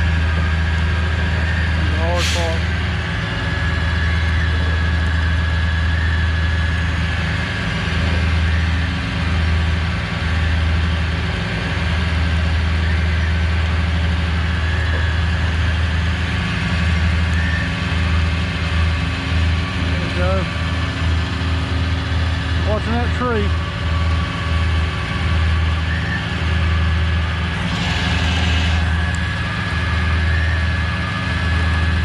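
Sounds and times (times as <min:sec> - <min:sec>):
truck engine idling: 0:00.0 - 0:32.0.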